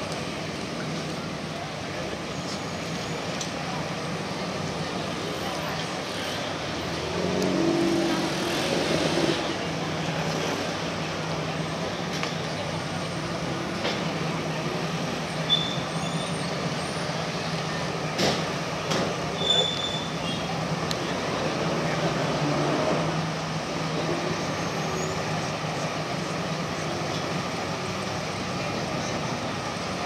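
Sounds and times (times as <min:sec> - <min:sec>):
boat diesel engines humming: 0:00.0 - 0:30.0.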